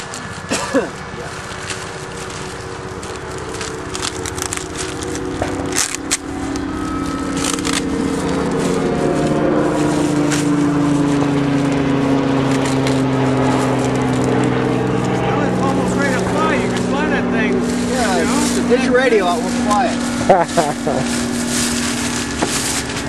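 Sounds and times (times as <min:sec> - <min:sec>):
steady mechanical hum: 0:00.0 - 0:23.0
plastic wrap crinkling: 0:01.2 - 0:15.1, 0:17.6 - 0:23.0.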